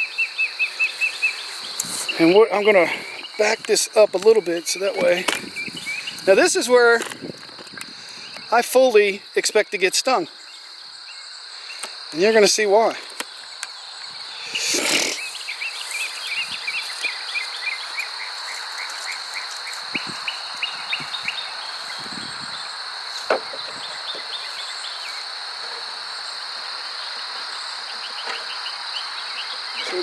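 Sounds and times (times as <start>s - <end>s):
insect high-pitched drone: 0.0s - 30.0s
insect rapid chirps: 0.0s - 30.0s.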